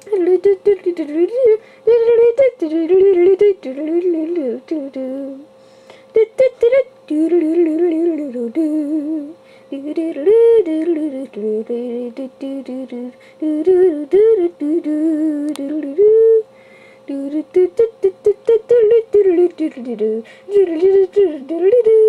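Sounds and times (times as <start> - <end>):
person humming a tune: 0.0 - 22.0.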